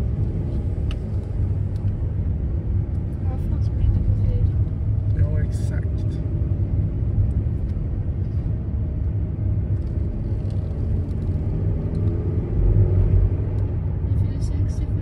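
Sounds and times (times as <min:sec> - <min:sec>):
road rumble: 0:00.0 - 0:15.0
van engine drone: 0:00.0 - 0:15.0.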